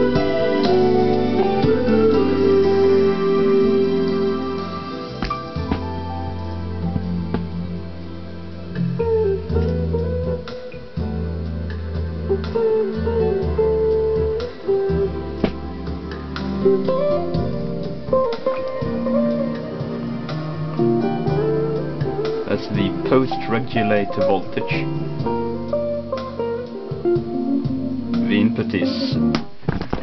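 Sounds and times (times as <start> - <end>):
guitar music: 0.0 - 29.6.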